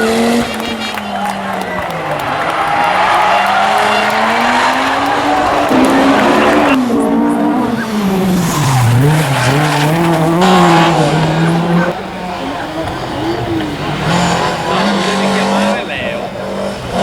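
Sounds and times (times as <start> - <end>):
rally car engine at full load: 0.0 - 17.0.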